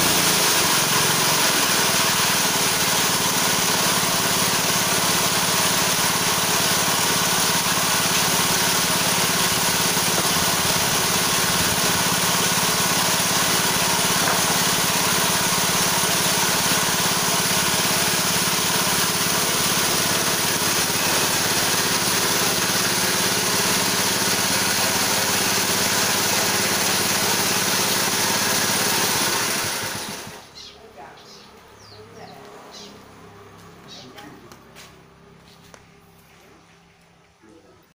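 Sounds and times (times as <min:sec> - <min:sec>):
small engine running: 0:00.0 - 0:30.7.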